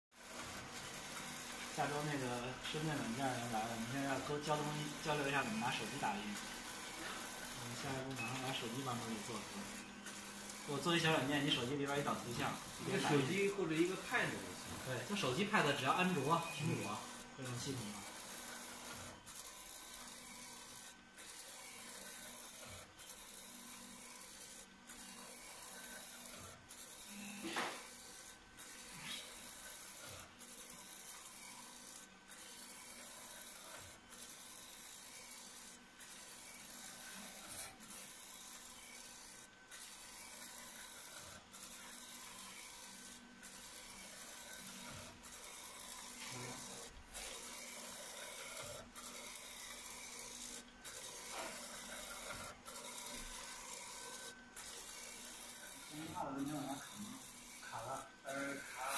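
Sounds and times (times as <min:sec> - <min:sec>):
printer carriage hissing and sliding: 0:00.2 - 0:58.9.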